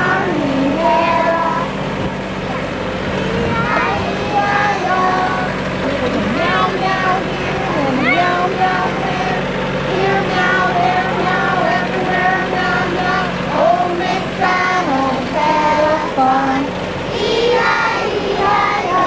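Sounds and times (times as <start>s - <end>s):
children singing together: 0.0s - 19.0s
low vehicle hum: 0.0s - 19.0s.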